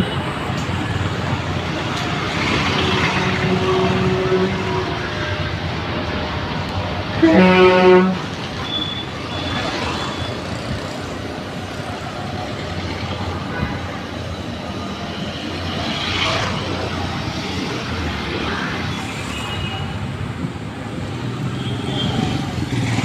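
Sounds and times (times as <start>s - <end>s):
road noise: 0.0s - 23.0s
vehicle engines: 0.0s - 23.0s.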